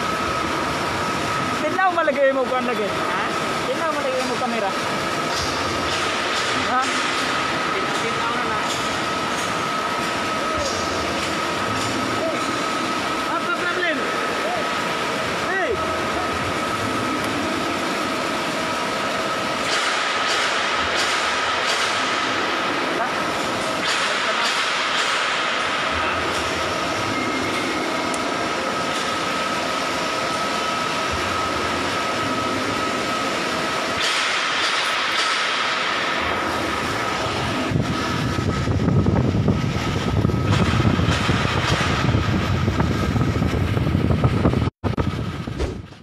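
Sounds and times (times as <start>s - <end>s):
constant high whine: 0.0s - 46.0s
shipboard machinery din: 0.0s - 46.0s.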